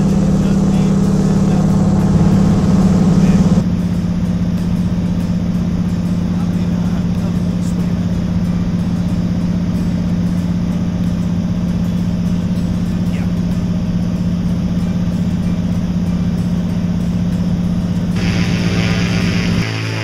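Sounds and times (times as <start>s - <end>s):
plane engine and propeller drone: 0.0s - 20.0s.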